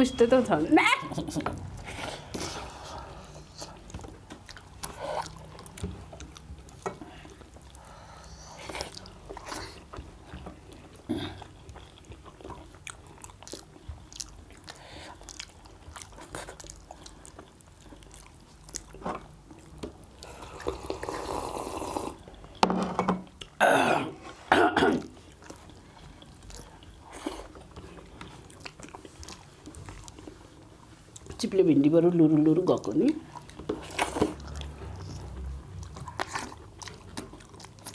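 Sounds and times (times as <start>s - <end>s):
person chewing food: 1.1s - 22.6s, 23.3s - 23.6s, 24.2s - 31.4s, 32.3s - 37.9s.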